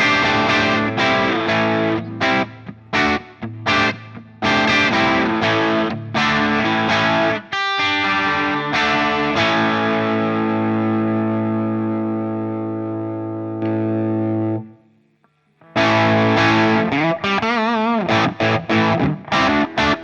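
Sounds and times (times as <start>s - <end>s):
distorted electric guitar: 0.0s - 14.8s, 15.6s - 20.0s.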